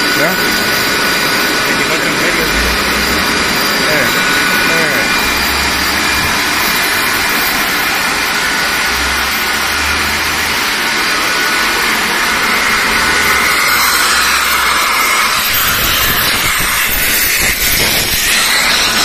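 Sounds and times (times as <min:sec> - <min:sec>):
air compressor running: 0:00.0 - 0:19.0
air hissing: 0:00.0 - 0:19.0
whining tones: 0:00.0 - 0:19.0.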